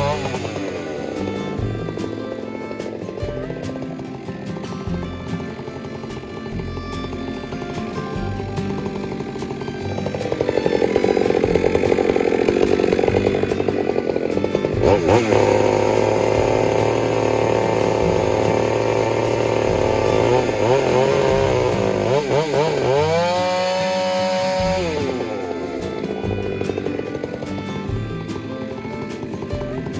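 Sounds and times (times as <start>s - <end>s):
chainsaw cutting log: 0.0s - 29.9s.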